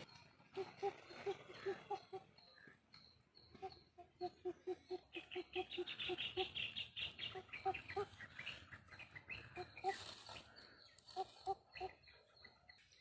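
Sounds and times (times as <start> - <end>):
bird hooting: 0.0 - 2.5, 3.5 - 12.1
high bird chirps: 0.0 - 13.0.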